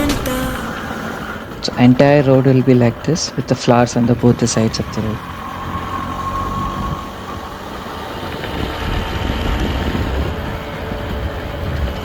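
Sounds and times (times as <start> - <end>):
motorbike engine running: 0.0 - 12.0
wind and road noise: 0.0 - 12.0.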